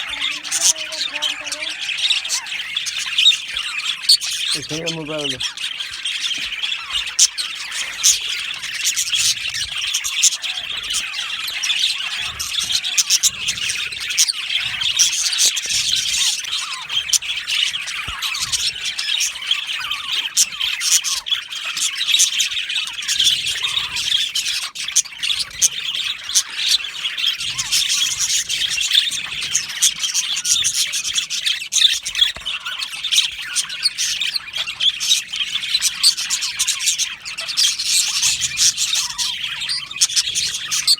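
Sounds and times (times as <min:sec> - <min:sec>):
budgerigar flock chirping: 0:00.0 - 0:40.9.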